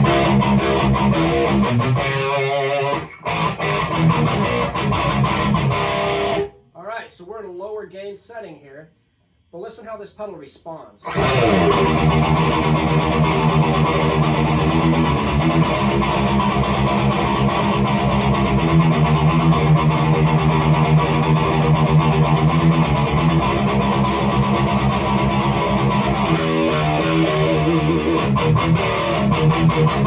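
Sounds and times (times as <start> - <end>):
distorted electric guitar metal riff: 0.0 - 6.6, 11.0 - 30.0.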